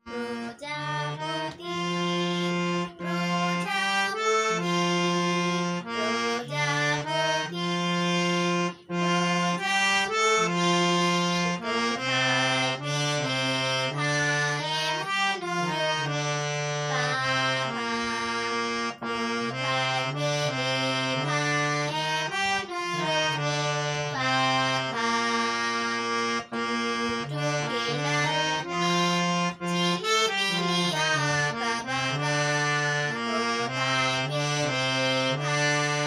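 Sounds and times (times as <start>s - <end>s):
harmonium melody: 0.0s - 36.0s.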